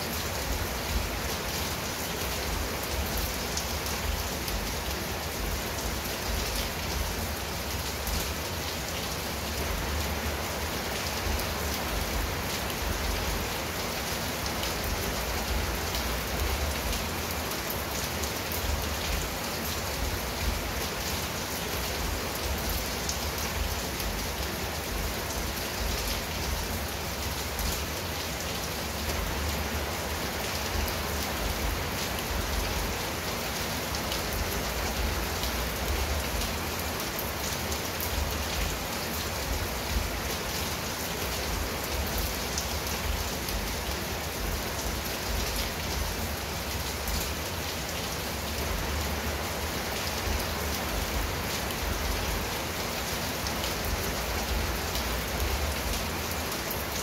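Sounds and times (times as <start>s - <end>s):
heavy rain on tiled roof: 0.0s - 57.0s.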